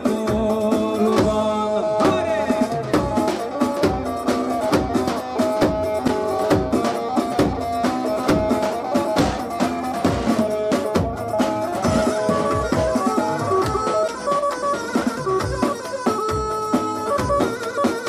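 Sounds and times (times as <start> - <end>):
driving drum beat: 0.0 - 18.0.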